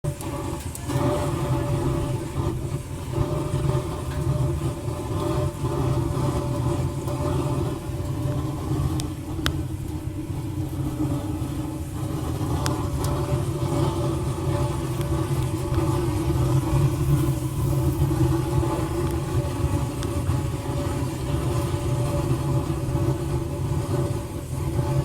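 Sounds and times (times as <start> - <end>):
furnace blower humming: 0.0 - 25.0
oil flame rumbling: 0.0 - 25.0.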